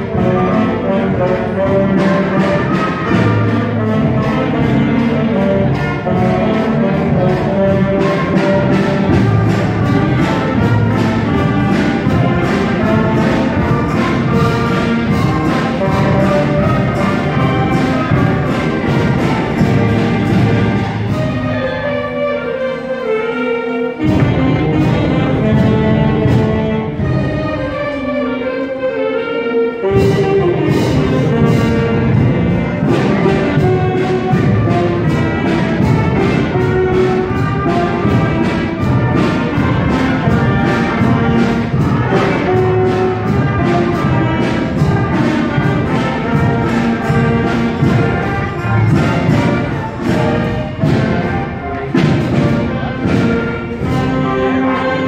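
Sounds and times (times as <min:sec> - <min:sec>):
concert band playing: 0:00.0 - 0:55.0.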